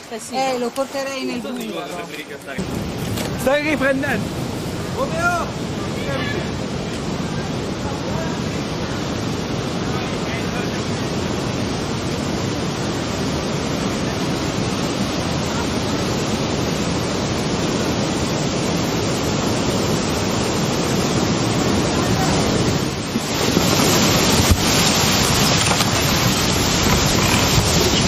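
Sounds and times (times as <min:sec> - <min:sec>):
roar of rushing water: 0:00.0 - 0:28.0
wind on microphone: 0:02.6 - 0:28.0.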